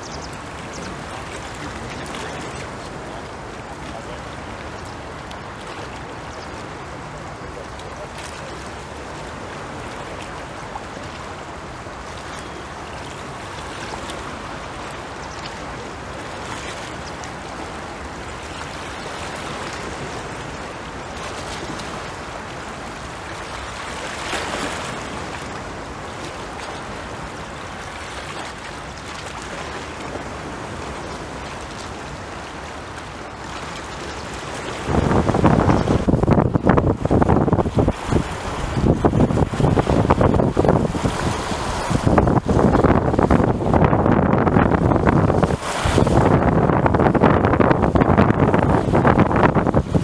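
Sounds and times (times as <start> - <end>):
waves washing against pier wall: 0.0 - 50.0.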